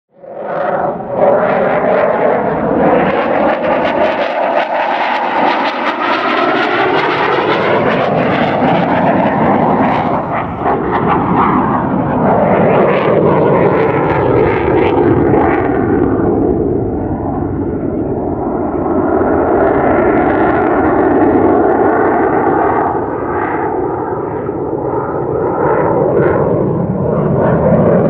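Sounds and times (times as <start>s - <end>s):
jet engine flying overhead: 0.1s - 28.0s.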